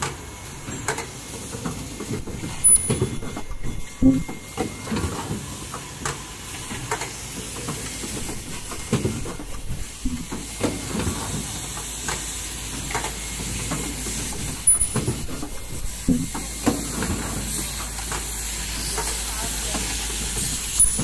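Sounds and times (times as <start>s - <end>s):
mechanisms clacking: 0.0s - 21.0s
steady machine noise: 0.0s - 21.0s
pneumatic cylinders hissing: 0.4s - 21.0s.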